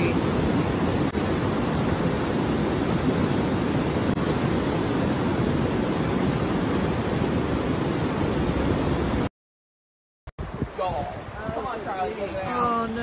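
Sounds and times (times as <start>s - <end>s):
river rushing: 0.0s - 9.3s, 10.4s - 13.0s.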